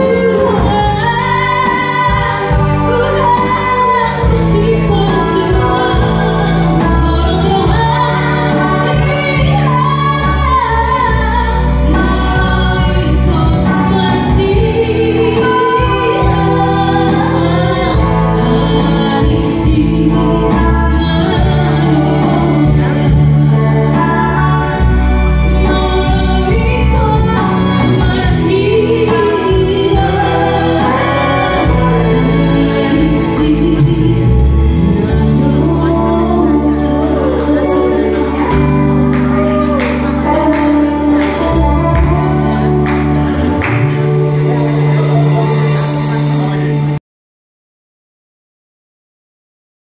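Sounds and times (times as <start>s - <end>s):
woman singing into microphone: 0.0s - 46.7s
electronic keyboard accompaniment: 0.0s - 47.0s.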